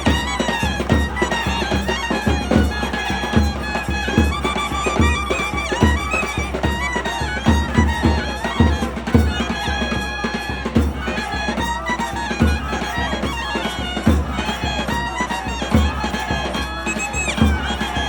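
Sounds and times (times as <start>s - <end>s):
double-reed wind instrument melody: 0.0s - 18.0s.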